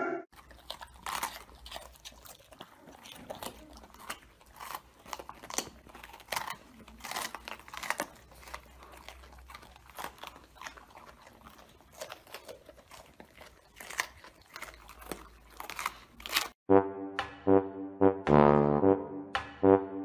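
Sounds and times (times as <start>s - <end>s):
dogs crunching peppers: 0.3s - 16.6s.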